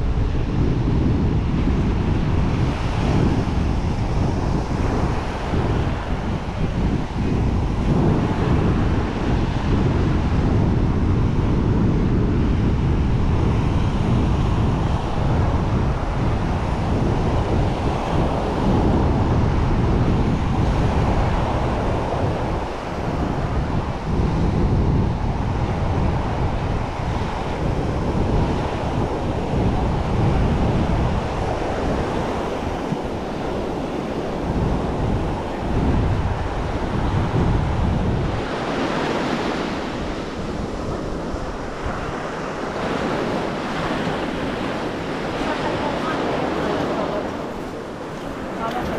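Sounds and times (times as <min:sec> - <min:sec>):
sea surf breaking on beach: 0:00.0 - 0:48.9
wind buffeting microphone: 0:00.0 - 0:48.9.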